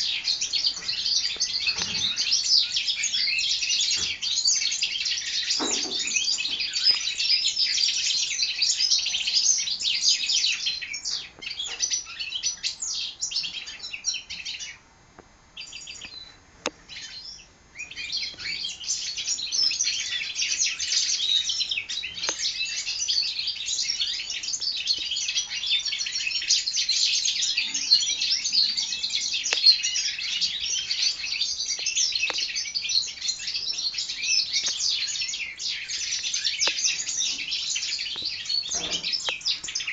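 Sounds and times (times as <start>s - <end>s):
birds twittering song: 0.0s - 39.9s.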